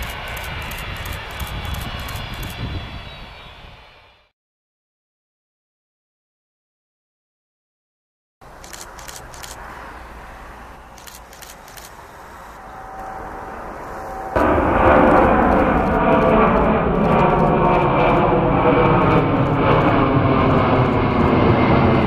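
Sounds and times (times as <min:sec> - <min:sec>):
high engine whine: 0:00.0 - 0:04.3, 0:08.4 - 0:22.0
jet engines rumbling: 0:00.0 - 0:04.3, 0:08.4 - 0:22.0.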